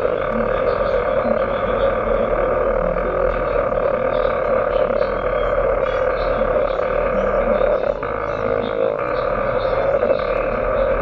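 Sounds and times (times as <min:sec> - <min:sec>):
dense noise music: 0:00.0 - 0:11.0.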